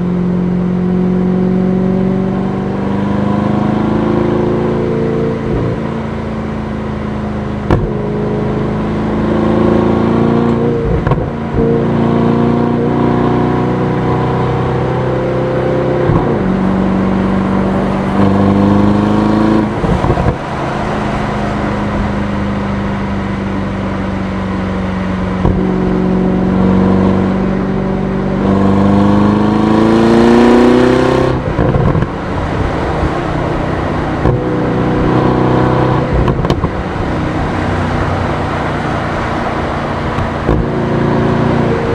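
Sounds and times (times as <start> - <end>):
car engine accelerating and upshifting: 0.0 - 41.9.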